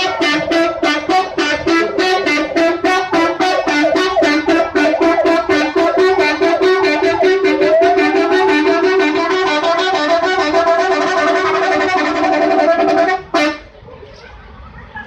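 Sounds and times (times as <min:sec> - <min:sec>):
multi-tone air horn: 0:00.0 - 0:13.8.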